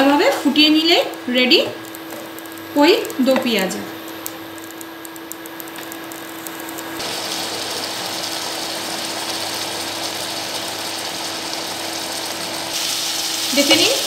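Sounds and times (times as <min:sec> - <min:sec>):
curry sizzling and bubbling: 0:00.0 - 0:14.0
steady hum: 0:00.0 - 0:14.0.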